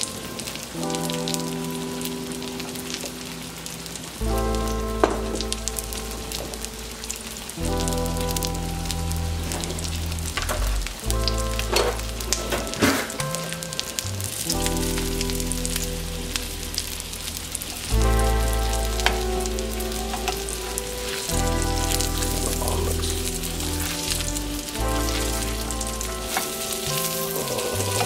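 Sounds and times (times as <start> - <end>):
background music with bass: 0.0 - 28.0
fish sizzling in a pan: 0.0 - 28.0.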